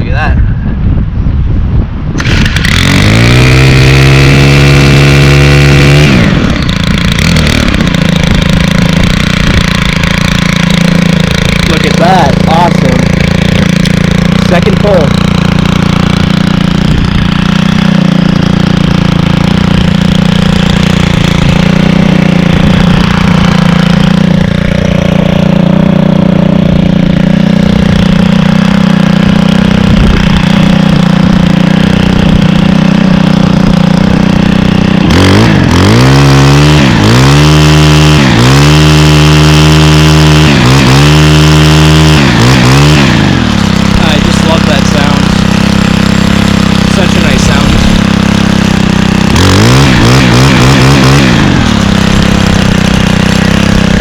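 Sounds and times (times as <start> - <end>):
string trimmer engine revving: 2.2 - 54.0.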